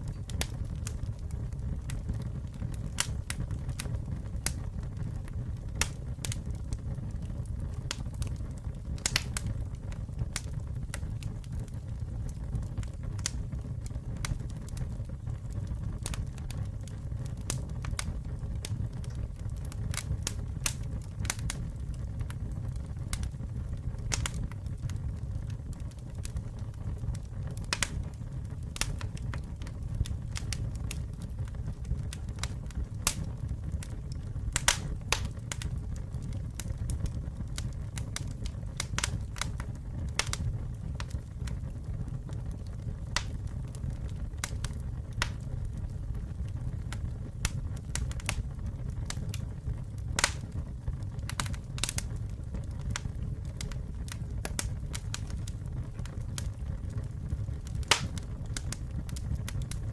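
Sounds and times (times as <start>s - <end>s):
campfire roaring: 0.0s - 59.9s
fire crackling and popping: 0.0s - 59.9s.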